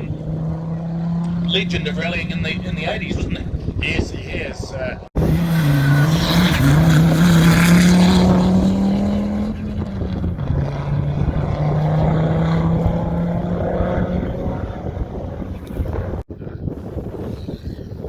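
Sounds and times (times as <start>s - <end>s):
rally car engine running hard: 0.0s - 3.6s, 5.2s - 16.2s.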